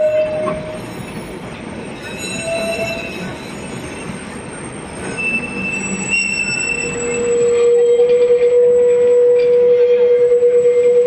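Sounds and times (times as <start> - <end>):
tram rumble: 0.0 - 11.0
tram wheels squealing on rails: 0.0 - 11.0.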